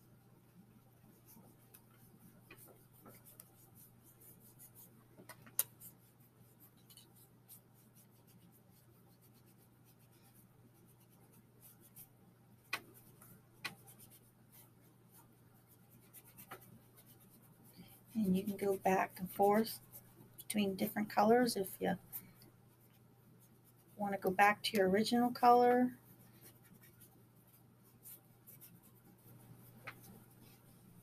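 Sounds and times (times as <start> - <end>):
low steady hum: 0.0 - 31.0
paintbrushes dabbing on canvas: 0.5 - 31.0.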